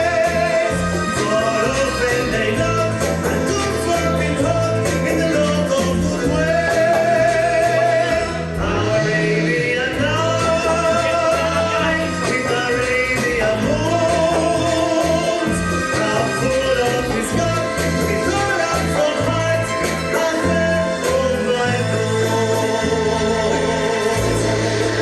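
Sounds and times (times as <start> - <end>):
band with bass and percussion: 0.0 - 25.0
person singing: 0.0 - 25.0.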